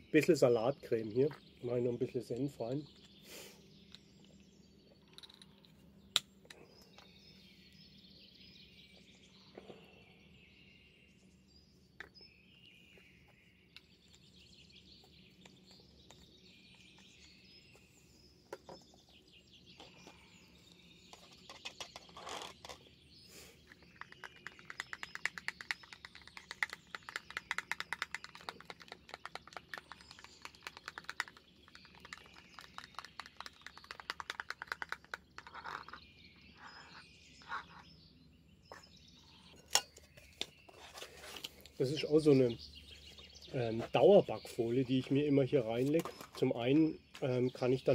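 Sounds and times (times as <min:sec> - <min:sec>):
faint songbirds chirping: 0:00.0 - 0:47.9.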